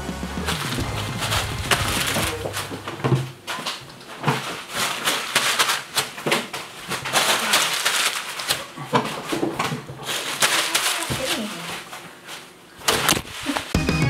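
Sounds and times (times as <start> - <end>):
rustling: 0.0 - 13.8.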